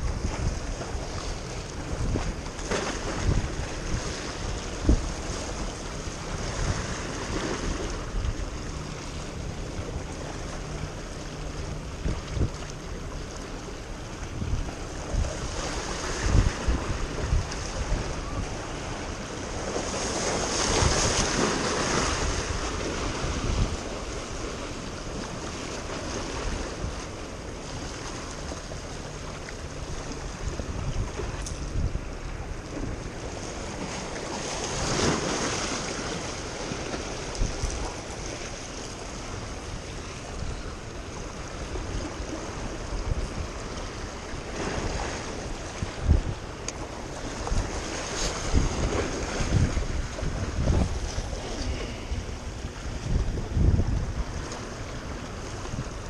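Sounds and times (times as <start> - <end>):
waves lapping against rocks: 0.0 - 56.0
wind buffeting microphone: 0.0 - 56.0.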